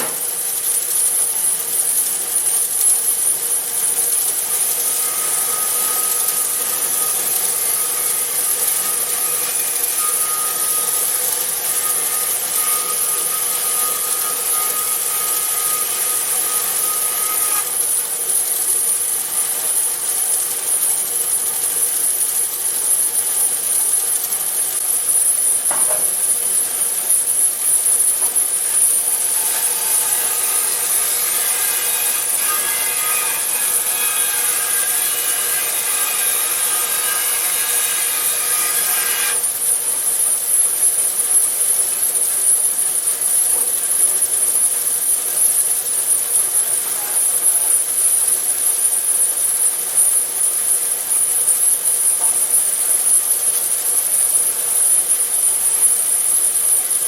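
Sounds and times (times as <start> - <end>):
band saw cutting wood: 0.0 - 57.0
saw whine: 0.0 - 57.0.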